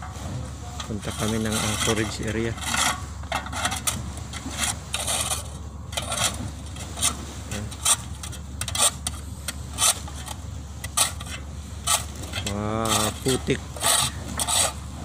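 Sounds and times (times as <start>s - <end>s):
low hum: 0.0s - 15.0s
shovels scraping steel ramp: 0.8s - 15.0s.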